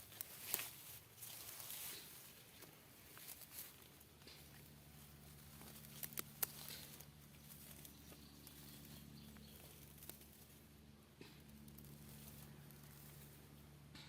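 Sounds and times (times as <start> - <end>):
weeds rustling as pulled: 0.0 - 10.8, 11.4 - 13.7
faint low hum: 0.0 - 14.0.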